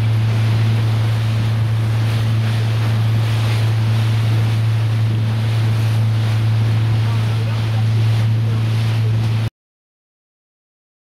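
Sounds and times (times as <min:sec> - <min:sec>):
boat engine humming: 0:00.0 - 0:09.5
sea water washing: 0:00.0 - 0:09.5
wind buffeting microphone: 0:00.0 - 0:09.5.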